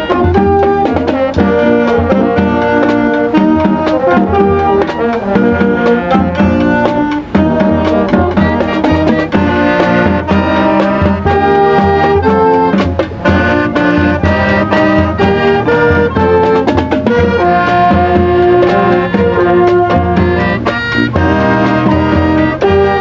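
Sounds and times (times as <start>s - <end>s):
brass melody: 0.0s - 23.0s
marching band playing: 0.0s - 23.0s
steady drum beat: 0.0s - 23.0s.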